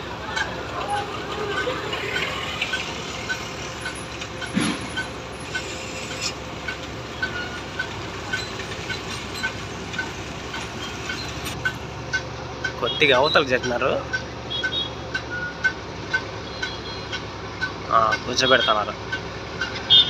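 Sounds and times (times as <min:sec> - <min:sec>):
crane diesel engines running: 0:00.0 - 0:20.0.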